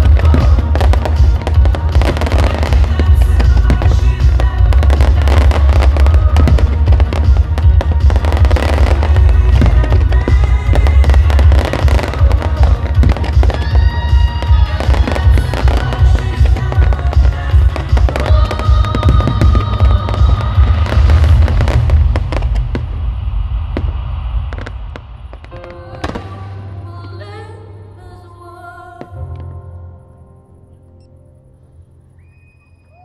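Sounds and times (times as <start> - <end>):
fireworks bangs and crackling: 0.0 - 26.8
music playing: 0.0 - 32.2.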